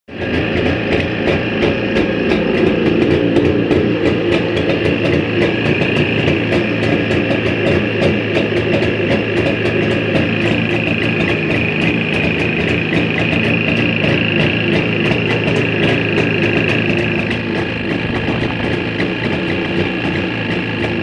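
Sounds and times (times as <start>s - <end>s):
sharp engine ticking: 0.1s - 21.0s
two-stroke engine running: 0.1s - 21.0s.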